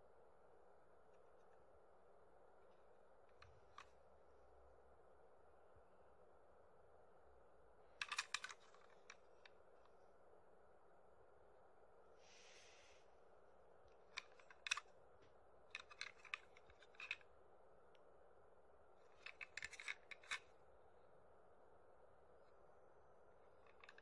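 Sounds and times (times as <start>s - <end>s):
room hiss: 0.0s - 24.0s.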